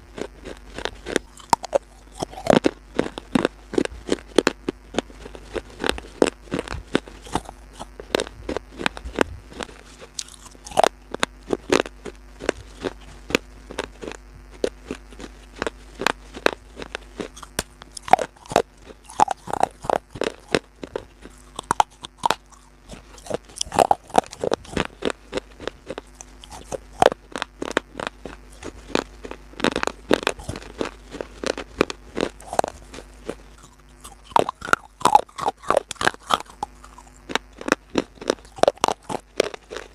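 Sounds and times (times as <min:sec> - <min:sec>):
crunching crisp food: 0:00.0 - 0:39.9
faint steady hum: 0:00.0 - 0:39.9.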